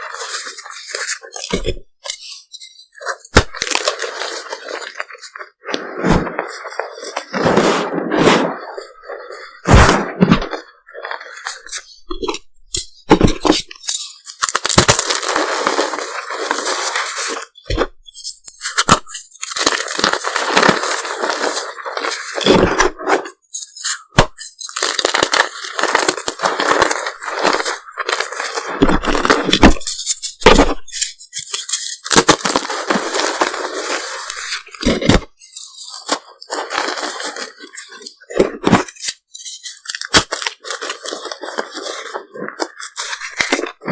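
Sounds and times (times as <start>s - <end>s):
chalk crushing and crackling: 0.0s - 43.9s.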